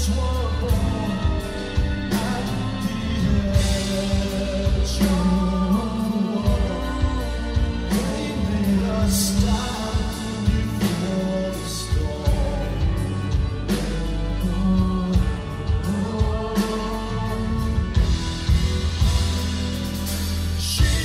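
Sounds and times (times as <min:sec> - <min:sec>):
man singing: 0:00.0 - 0:19.4, 0:20.2 - 0:21.0
bass: 0:00.0 - 0:21.0
drums: 0:00.0 - 0:21.0
keyboards: 0:00.0 - 0:21.0.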